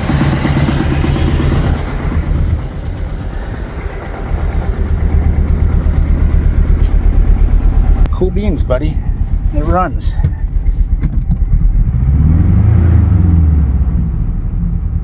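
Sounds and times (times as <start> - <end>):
engine idling rough with miss: 0.0 - 15.0.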